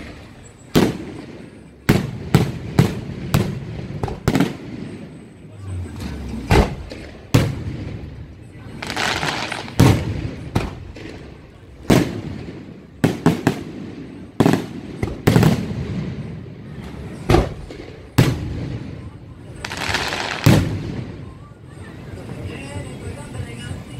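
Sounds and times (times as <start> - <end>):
fireworks bangs: 0.0 - 21.6.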